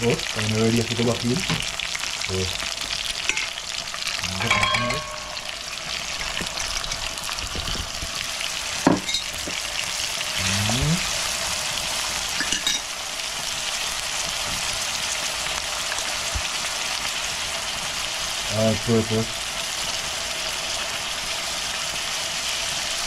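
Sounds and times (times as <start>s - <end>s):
vegetables sizzling in frying pan: 0.0s - 23.0s.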